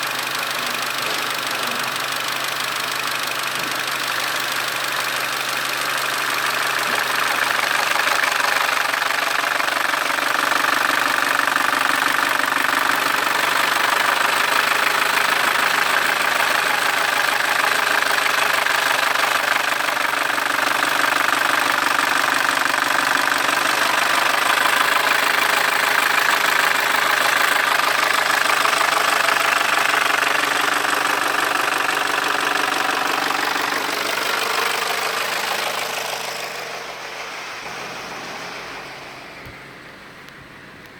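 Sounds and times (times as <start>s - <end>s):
car engine running: 0.0s - 40.9s
mechanical noise from engine: 5.8s - 40.9s.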